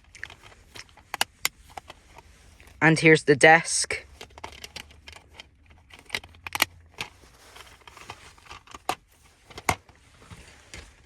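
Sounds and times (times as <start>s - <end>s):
faint rustling: 0.0s - 2.9s, 4.0s - 11.0s.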